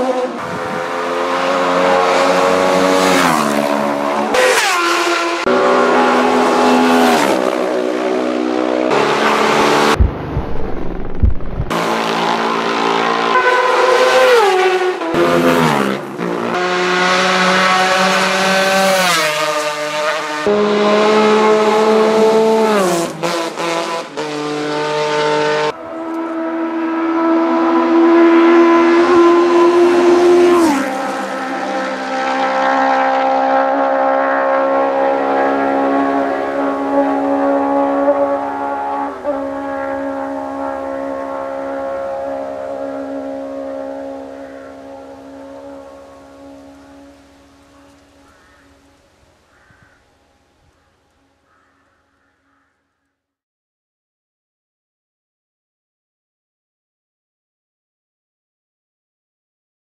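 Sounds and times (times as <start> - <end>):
racing motorcycles passing at speed: 0.0 - 49.0.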